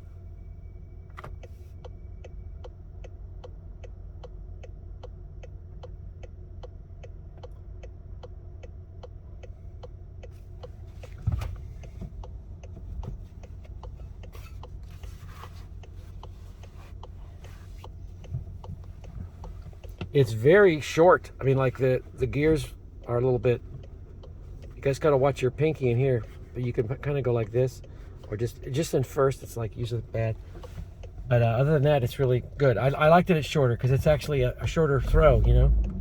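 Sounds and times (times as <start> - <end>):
car cabin rumble: 0.0 - 36.0
turn signal ticking: 0.0 - 36.0.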